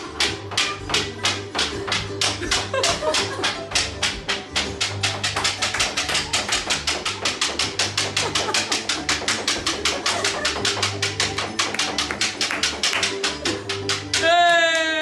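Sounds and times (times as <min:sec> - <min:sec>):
fast percussive music: 0:00.0 - 0:15.0.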